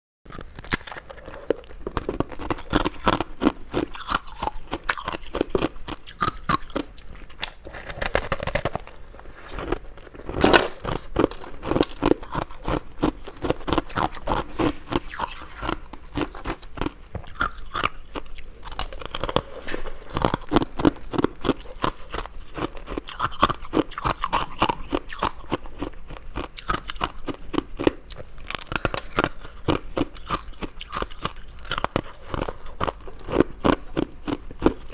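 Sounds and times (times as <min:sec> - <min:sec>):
person crunching ice: 0:00.3 - 0:34.9.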